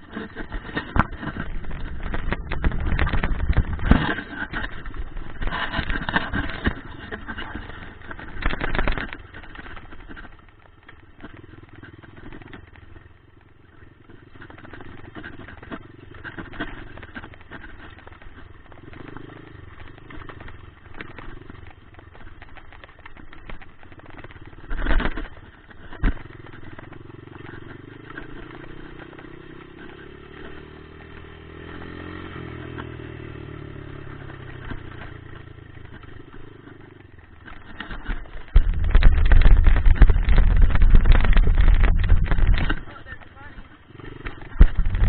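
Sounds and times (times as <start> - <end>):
dirt bike engine running: 0.0 - 45.0
loud rough rumble: 0.0 - 45.0.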